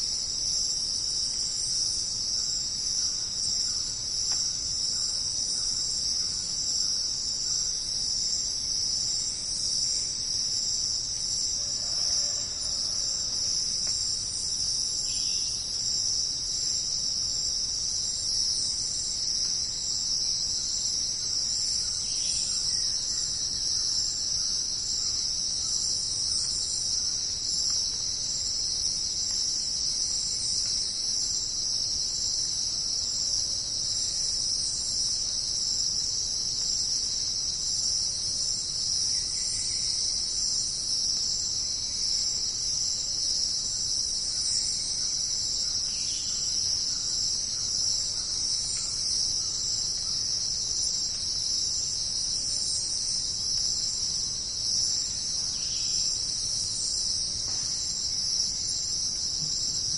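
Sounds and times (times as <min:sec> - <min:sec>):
crickets and insects chirping: 0:00.0 - 0:59.9.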